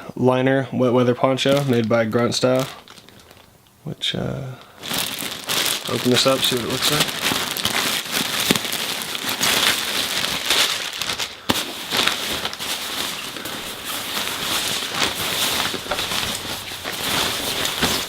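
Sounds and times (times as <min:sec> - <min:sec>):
plastic packaging crinkling: 0:01.4 - 0:03.6, 0:04.6 - 0:18.0.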